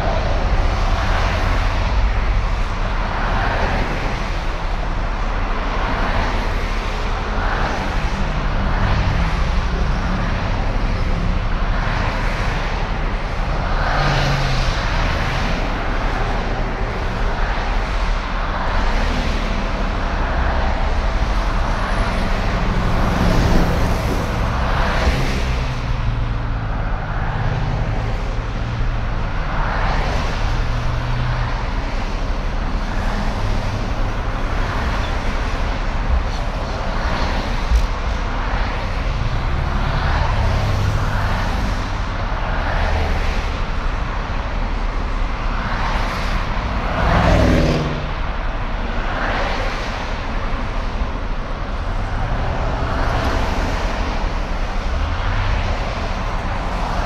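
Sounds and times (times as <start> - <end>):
cars passing by: 0.0 - 57.0
road traffic rumble: 0.0 - 57.0.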